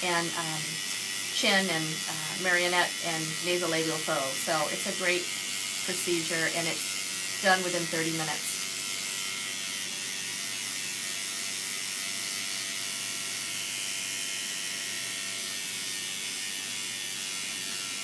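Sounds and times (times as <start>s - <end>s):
electric pen buzzing: 0.0s - 18.0s.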